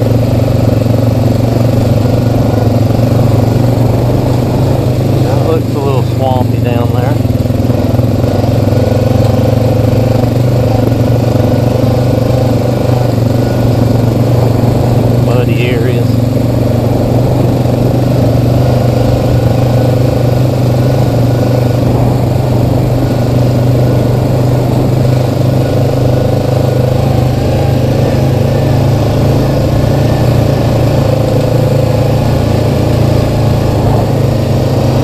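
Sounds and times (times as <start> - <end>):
atv engine droning: 0.0 - 35.0.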